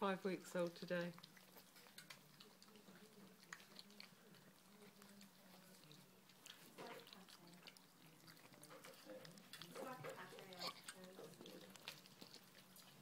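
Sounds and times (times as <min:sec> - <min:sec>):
faint low hum: 0:00.0 - 0:13.0
puppies eating from steel bowl: 0:00.0 - 0:13.0.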